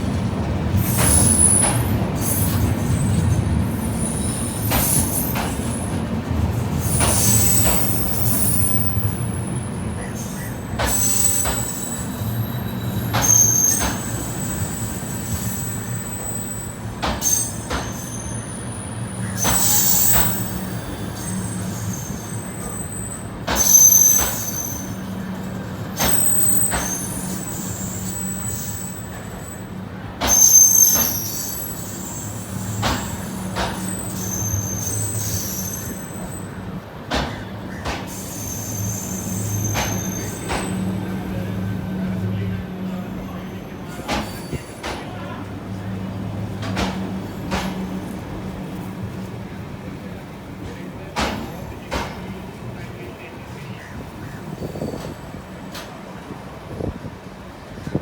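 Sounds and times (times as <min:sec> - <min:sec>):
rumble of moving coaches: 0:00.0 - 0:58.0
train clanks: 0:00.0 - 0:58.0
train wheels squealing on rails: 0:00.0 - 0:58.0.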